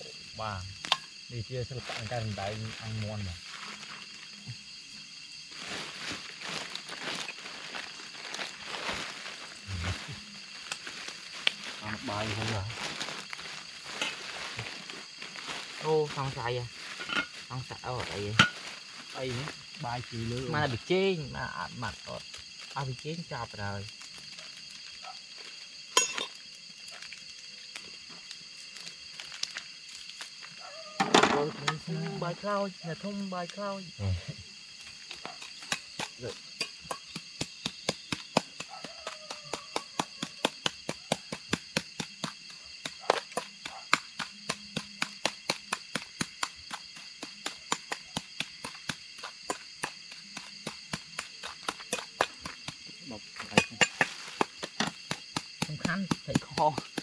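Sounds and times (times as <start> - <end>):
frogs and insects chorus: 0.0 - 57.0.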